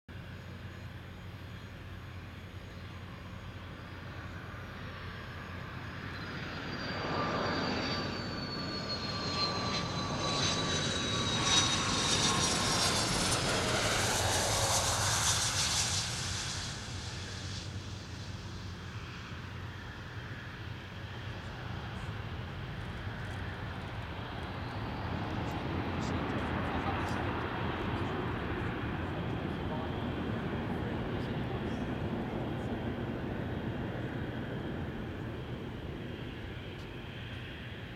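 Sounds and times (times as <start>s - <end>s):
jet engine whine: 0.1s - 37.9s
jet rumble rolling away: 0.2s - 37.9s.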